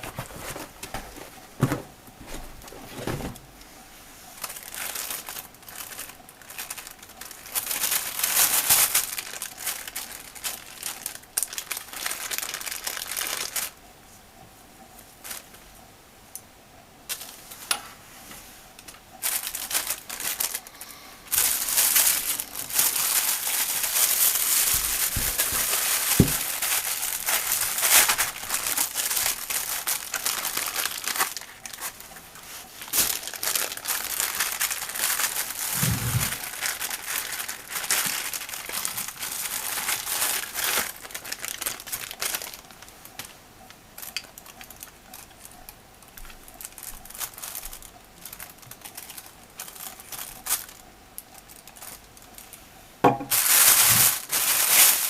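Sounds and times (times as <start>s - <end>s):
packaging crinkling: 0.0s - 3.5s, 4.4s - 13.8s, 15.0s - 15.6s, 17.1s - 17.8s, 18.8s - 55.0s.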